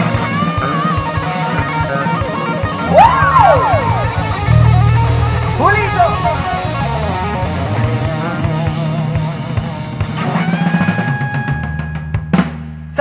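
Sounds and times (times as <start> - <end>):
electric guitar solo: 0.0 - 11.8
bass and drums: 0.0 - 13.0.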